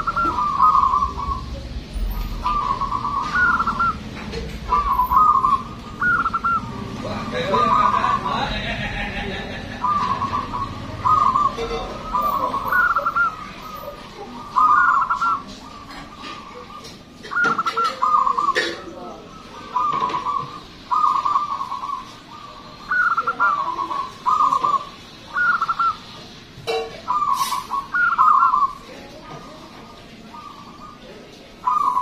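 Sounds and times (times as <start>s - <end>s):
dove cooing: 0.0s - 32.0s.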